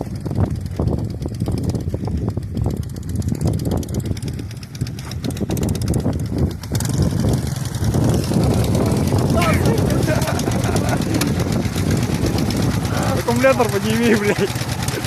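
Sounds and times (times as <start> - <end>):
knocks and rattles: 0.0 - 15.0
motorcycle engine revving: 0.0 - 15.0.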